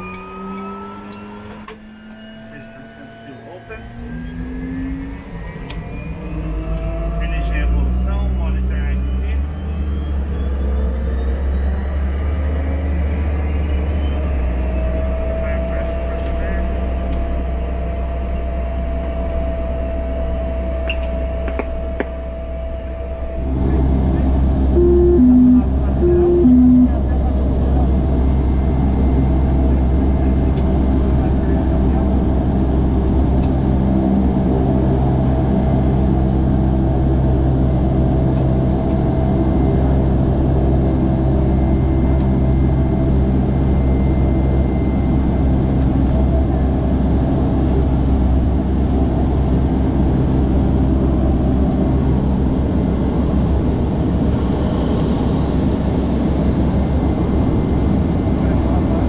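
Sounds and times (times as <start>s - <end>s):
high engine whine: 0.0s - 59.0s
turboprop engine drone: 0.0s - 59.0s.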